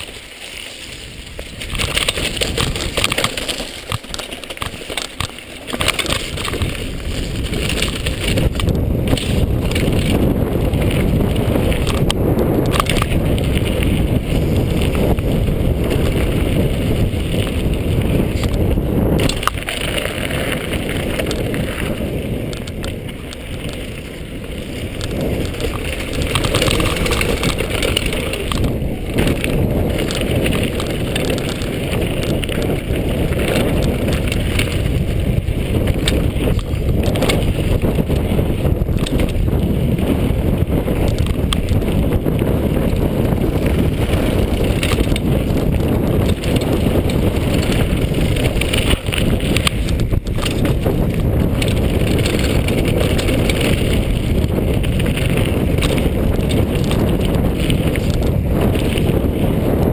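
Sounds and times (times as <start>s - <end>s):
bike knocking and rattling: 0.0s - 59.9s
tyres rolling over gravel: 0.0s - 59.9s
wind on microphone: 0.0s - 59.9s.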